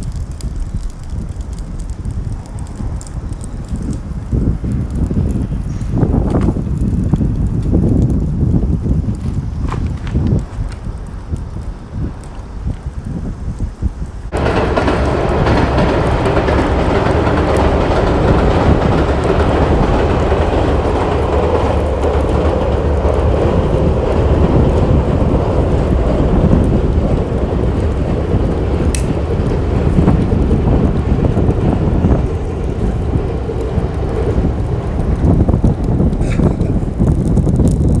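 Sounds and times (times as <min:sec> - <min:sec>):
sharp crack: 0:00.0 - 0:38.0
wind buffeting microphone: 0:00.0 - 0:38.0.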